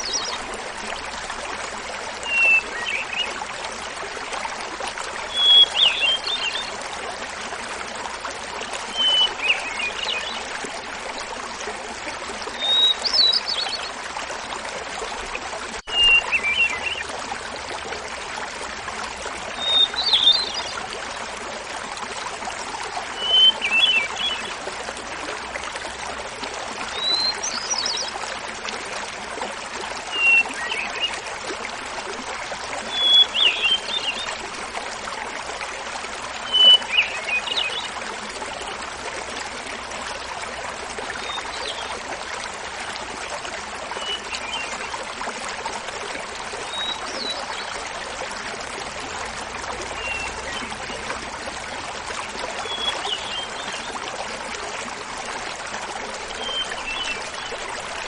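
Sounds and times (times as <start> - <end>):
small waterfall babbling: 0.0 - 58.0.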